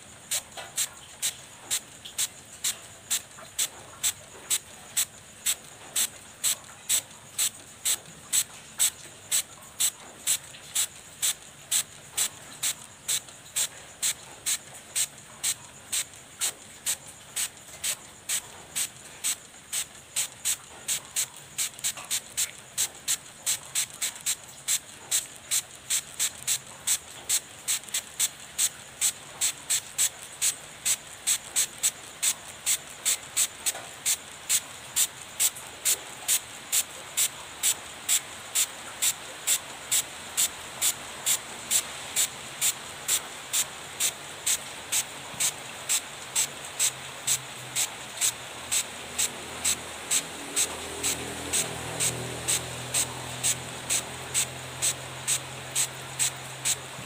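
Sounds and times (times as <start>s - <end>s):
spray bottle hissing: 0.0s - 57.0s.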